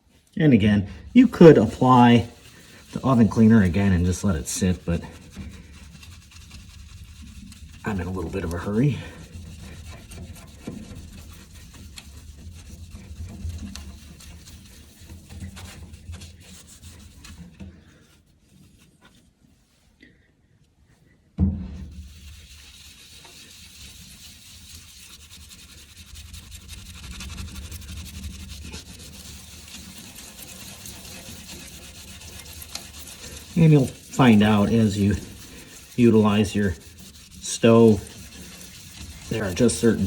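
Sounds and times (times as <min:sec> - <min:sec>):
paper towel scrubbing glass: 0:00.0 - 0:19.7, 0:21.8 - 0:40.0.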